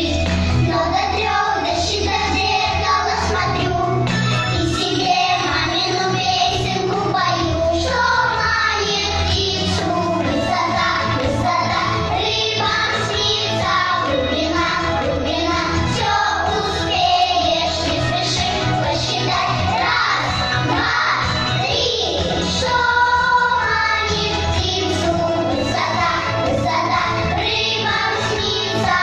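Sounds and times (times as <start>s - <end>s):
child singing: 0.0s - 29.0s
instrumental backing music: 0.0s - 29.0s.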